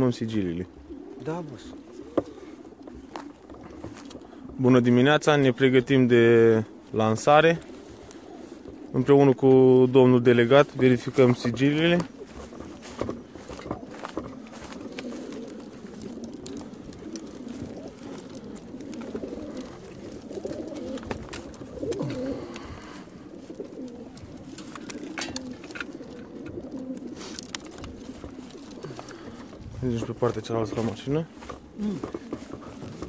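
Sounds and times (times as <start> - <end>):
pigeons cooing: 0.0 - 33.0.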